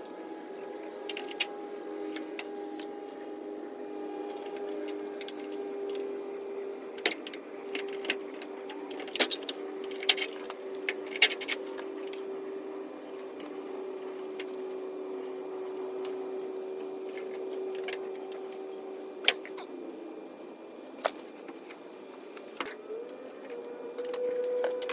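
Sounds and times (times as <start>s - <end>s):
steady hum: 0.0s - 24.9s.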